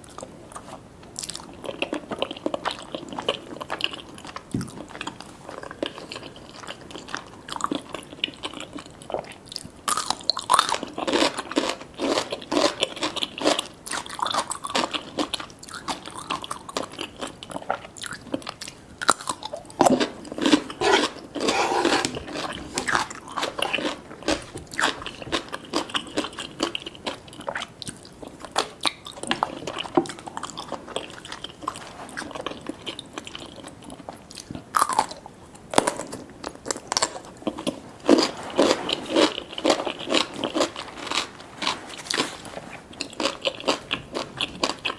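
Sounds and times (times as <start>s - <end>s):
person chewing crunchy food: 0.0s - 44.9s.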